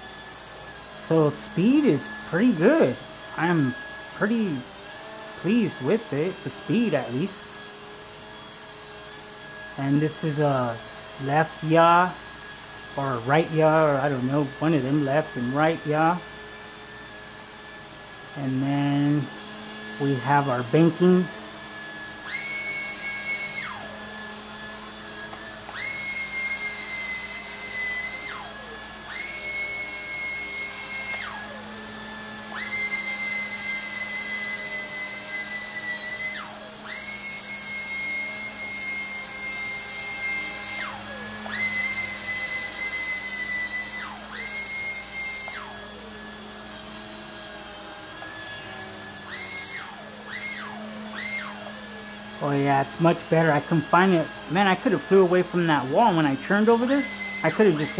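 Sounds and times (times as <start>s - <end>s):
toy helicopter motors whining: 0.0s - 57.9s.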